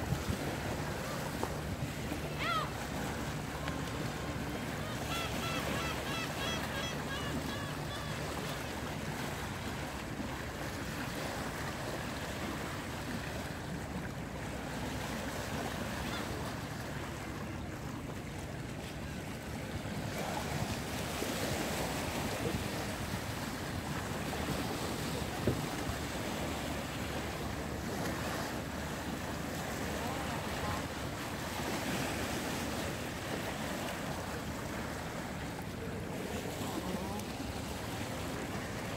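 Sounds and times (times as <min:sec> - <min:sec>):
sea waves breaking over rocks: 0:00.0 - 0:38.9.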